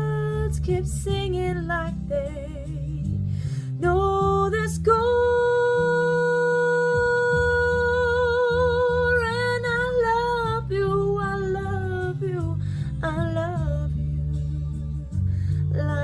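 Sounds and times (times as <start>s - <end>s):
soft instrumental accompaniment: 0.0s - 16.0s.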